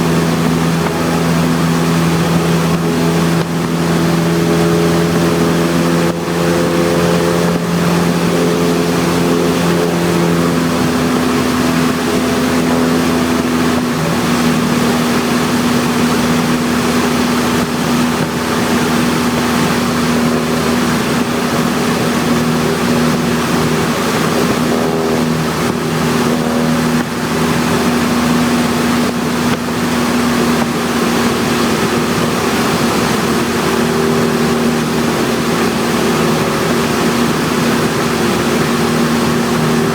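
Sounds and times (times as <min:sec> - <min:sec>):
airflow noise: 0:00.0 - 0:39.9
airplane engine and propeller droning: 0:00.0 - 0:39.9.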